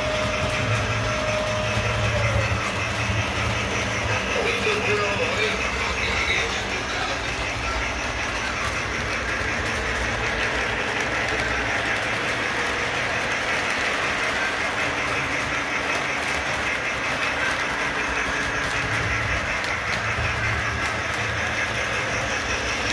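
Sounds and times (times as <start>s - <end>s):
model train motor whirring: 0.0s - 22.9s
wheels clicking over rail joints: 0.0s - 22.9s.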